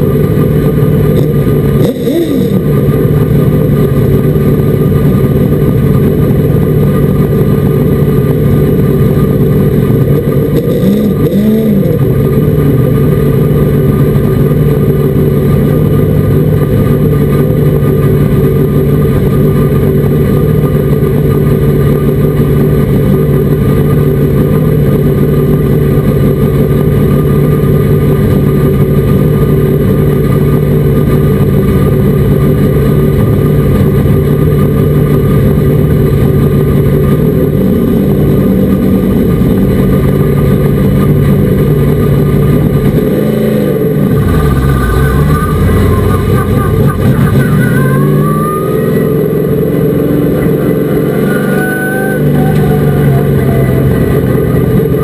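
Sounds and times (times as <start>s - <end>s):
truck engine running hard: 0.0s - 55.0s.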